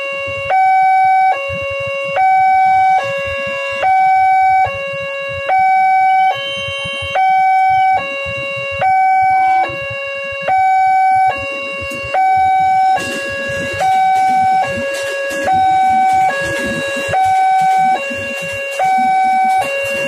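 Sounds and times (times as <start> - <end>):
level crossing two-tone alarm: 0.0 - 20.0
electric train rolling: 0.7 - 20.0.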